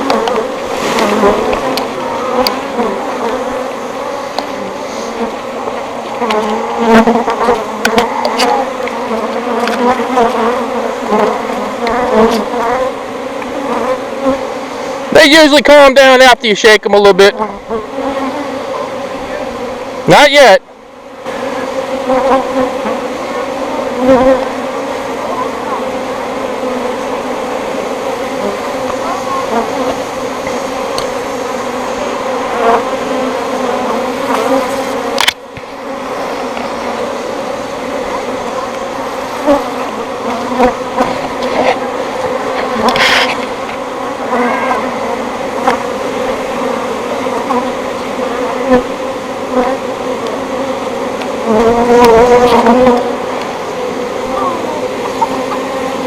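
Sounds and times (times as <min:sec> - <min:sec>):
bees buzzing loudly: 0:00.0 - 0:56.0.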